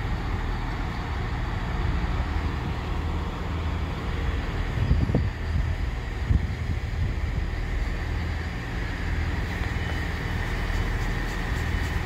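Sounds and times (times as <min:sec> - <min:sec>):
train rumbling: 0:00.0 - 0:12.0
wind buffeting microphone: 0:01.2 - 0:12.0.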